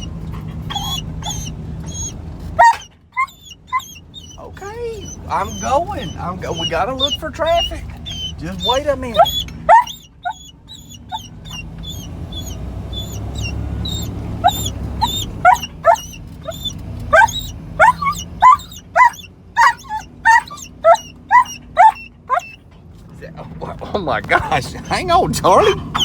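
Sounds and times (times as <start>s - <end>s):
dog whining in yelps: 0.0s - 22.6s, 24.3s - 26.0s
low rumble of car moving: 0.0s - 26.0s.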